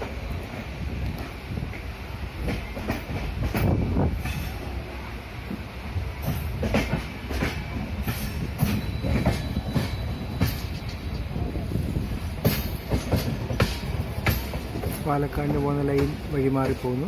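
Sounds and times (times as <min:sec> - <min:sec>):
wheels clacking over rail joints: 0:00.0 - 0:04.8, 0:05.5 - 0:17.0
train rumbling on track: 0:00.0 - 0:17.0.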